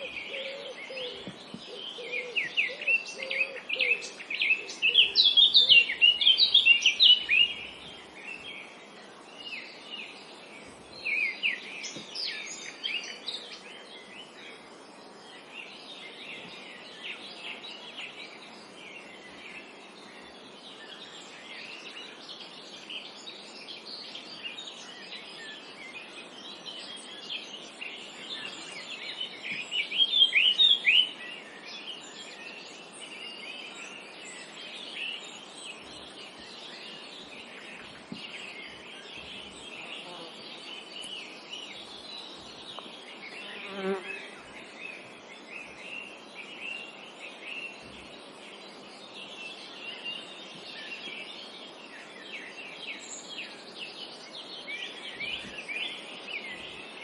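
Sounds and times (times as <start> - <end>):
small birds chirping and singing: 0.0 - 57.0
steady background hiss: 0.0 - 57.0.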